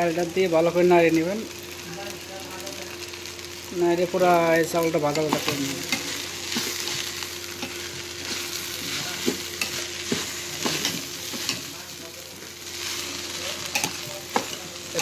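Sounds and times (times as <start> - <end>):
rice frying in oil sizzling: 0.0 - 15.0.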